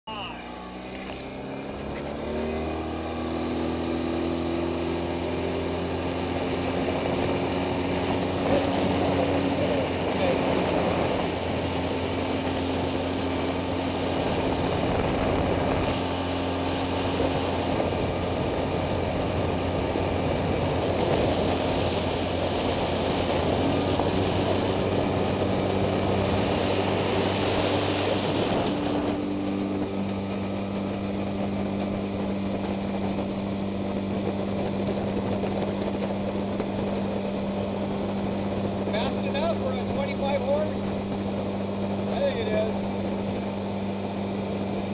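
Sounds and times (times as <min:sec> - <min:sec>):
outboard motor drone: 0:00.0 - 0:44.9
wind: 0:00.0 - 0:44.9
rushing water: 0:00.8 - 0:44.9.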